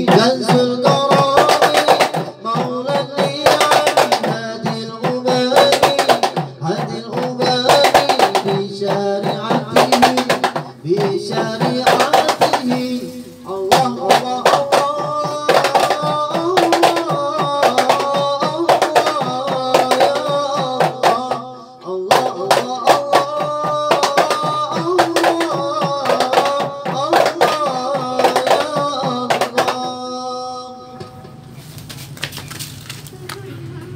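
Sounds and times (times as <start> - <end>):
man singing devotional song: 0.0 - 31.5
frame drums and hand drums: 0.0 - 33.9.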